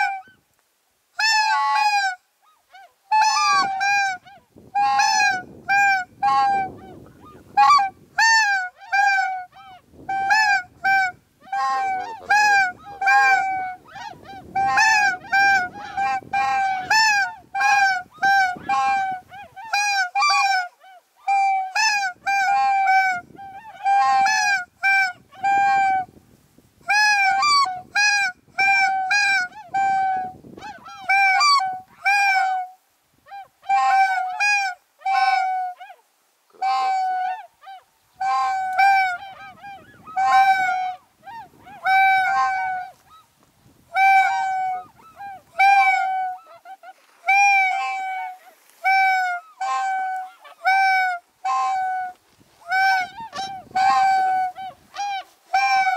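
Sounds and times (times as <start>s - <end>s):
geese honking: 0.0s - 0.3s, 1.2s - 26.1s, 26.9s - 32.7s, 33.3s - 43.3s, 43.9s - 55.9s.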